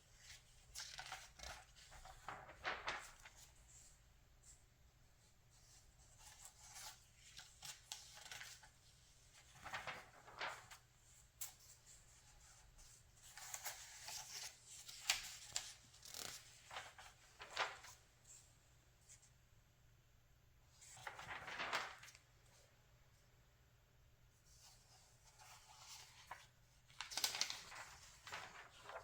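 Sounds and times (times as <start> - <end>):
paper rustling: 0.1 - 4.0, 5.5 - 18.5, 20.7 - 22.7, 24.5 - 29.0.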